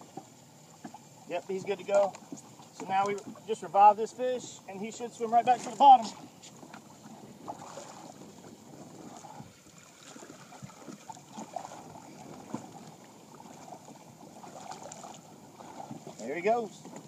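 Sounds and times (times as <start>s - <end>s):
water sloshing against a hull: 0.0s - 17.0s.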